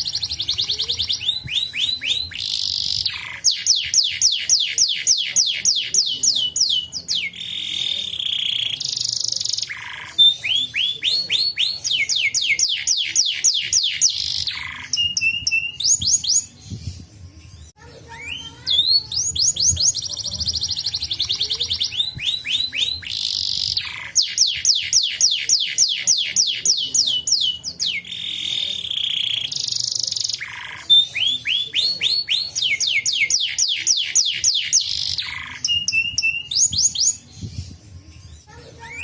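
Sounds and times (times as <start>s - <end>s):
canary singing rapid trills: 0.0s - 17.1s, 18.1s - 37.8s.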